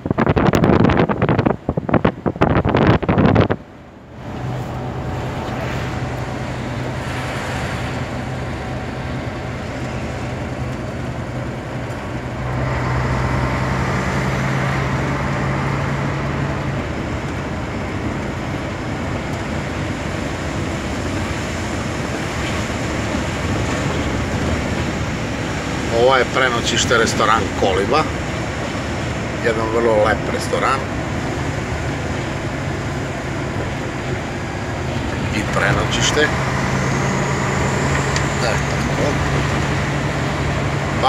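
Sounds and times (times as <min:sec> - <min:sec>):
diesel engine drone: 0:00.0 - 0:41.0
road and wind noise: 0:00.0 - 0:41.0.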